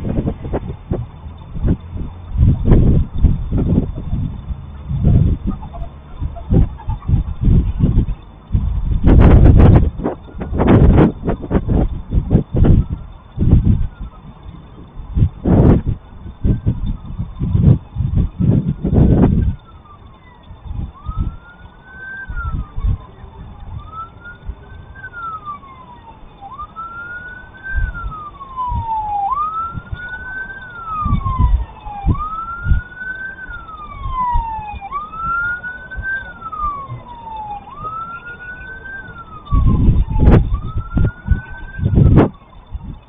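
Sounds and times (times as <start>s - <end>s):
emergency siren wailing: 0.0s - 43.0s
low rumbling surges: 0.0s - 43.0s.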